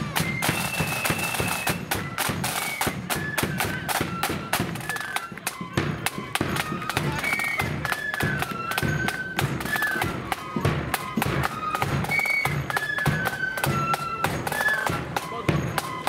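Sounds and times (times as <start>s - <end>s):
flute melody: 0.0s - 16.0s
snare drum strokes: 0.0s - 16.0s.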